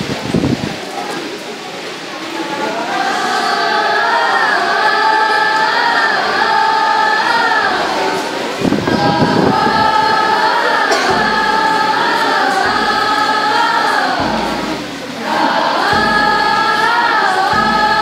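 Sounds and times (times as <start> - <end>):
choir singing in harmony: 2.5 - 18.0.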